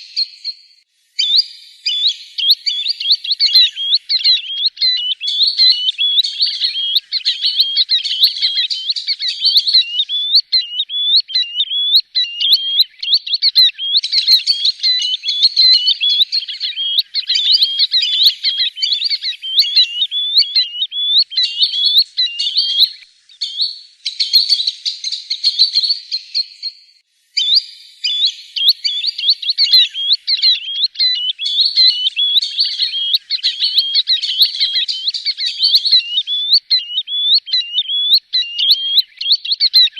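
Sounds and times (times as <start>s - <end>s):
sandpiper high chirping calls: 1.2s - 26.8s, 27.4s - 39.9s.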